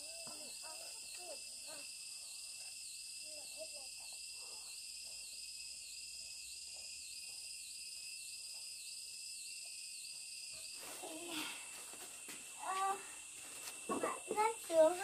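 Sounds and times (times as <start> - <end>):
insect chorus: 0.0 - 15.0
pulsing insect call: 0.0 - 15.0.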